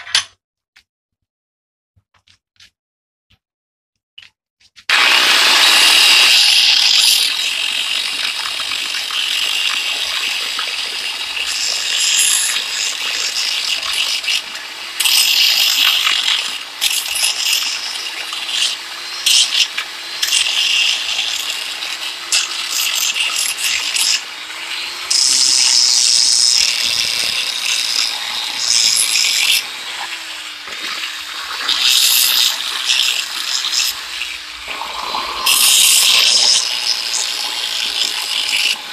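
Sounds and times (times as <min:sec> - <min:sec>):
angle grinder grinding steel: 0:04.9 - 0:38.9
grinder motor hum: 0:04.9 - 0:38.9.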